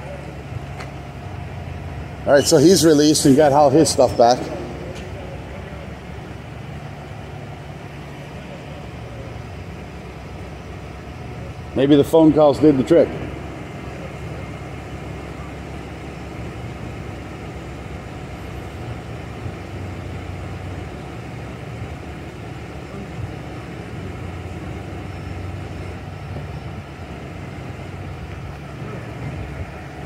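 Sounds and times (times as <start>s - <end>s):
faint traffic and street noise: 0.0s - 30.0s
vehicle engine idling: 0.0s - 30.0s.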